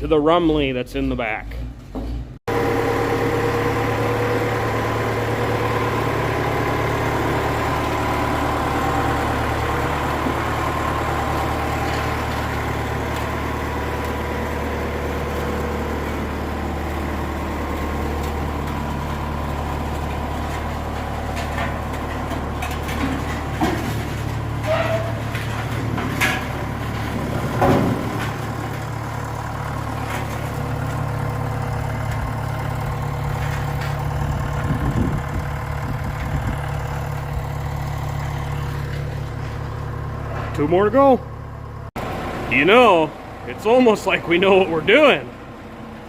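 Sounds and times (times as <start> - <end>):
tractor engine running at low speed: 0.0 - 46.0.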